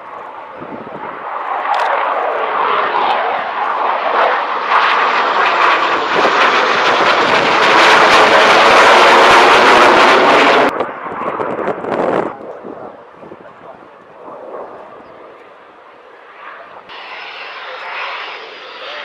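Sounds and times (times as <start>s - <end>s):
fighter jets flying over: 0.0s - 19.0s.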